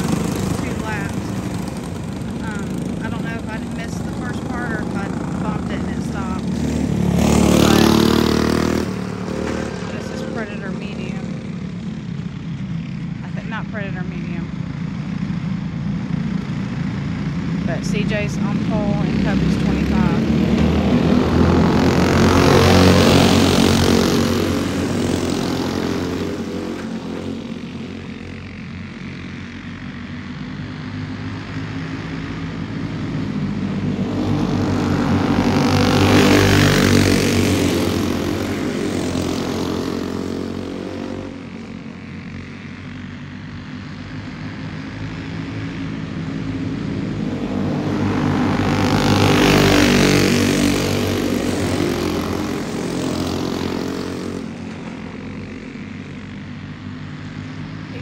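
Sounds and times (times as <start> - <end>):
kart engines racing past: 0.0 - 58.0.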